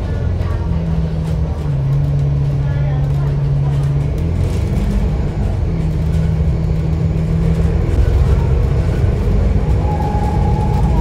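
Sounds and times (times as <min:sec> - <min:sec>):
bus engine hum: 0:00.0 - 0:11.0
road rumble: 0:00.0 - 0:11.0.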